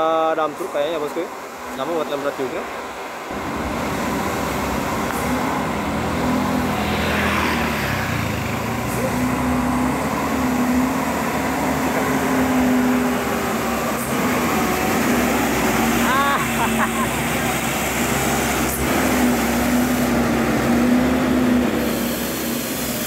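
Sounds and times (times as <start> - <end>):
diesel truck engine under load: 3.3 - 23.0.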